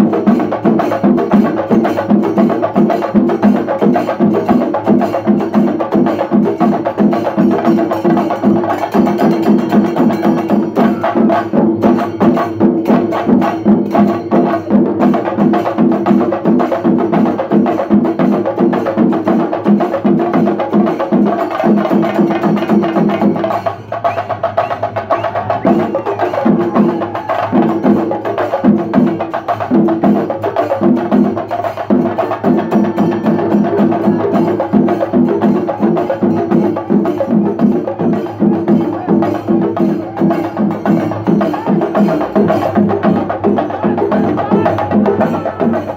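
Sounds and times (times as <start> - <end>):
drums beaten rapidly with sticks: 0.0 - 45.9.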